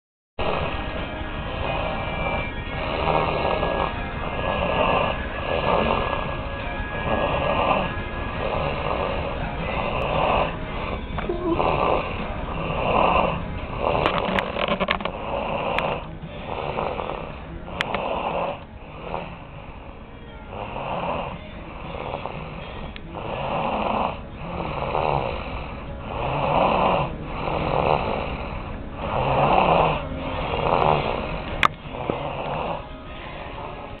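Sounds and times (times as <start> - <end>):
woman snoring rhythmically: 0.4 - 34.0.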